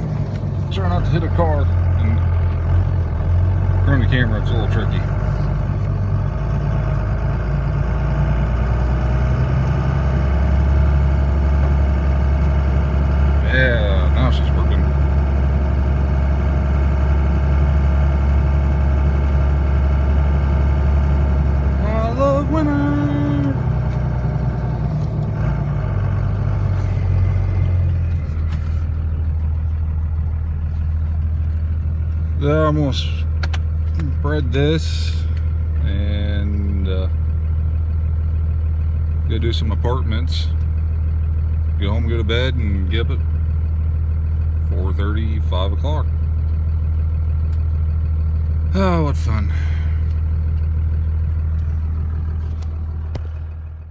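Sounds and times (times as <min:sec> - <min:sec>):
truck engine humming: 0:00.0 - 0:53.9.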